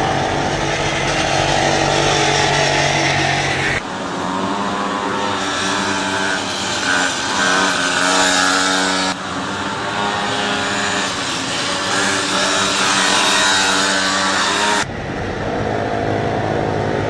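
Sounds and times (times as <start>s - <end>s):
small motorbike engines revving: 0.0s - 17.0s.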